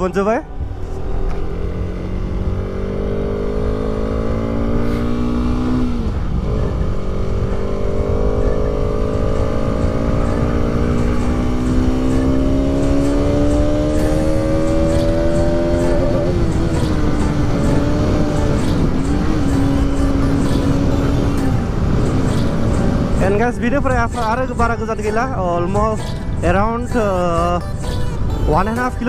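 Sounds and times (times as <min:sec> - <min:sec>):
motorcycle engine accelerating: 0:00.0 - 0:26.4.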